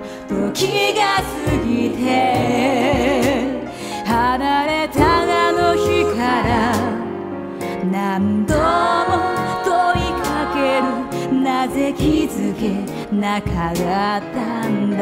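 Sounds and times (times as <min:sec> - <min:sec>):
instrumental backing: 0:00.0 - 0:15.0
woman singing a ballad: 0:00.0 - 0:15.0.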